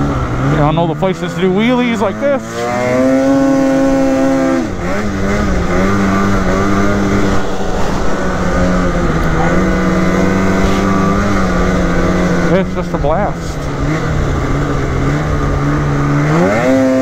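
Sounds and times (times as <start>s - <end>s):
snowmobile engine at high revs: 0.0s - 17.0s.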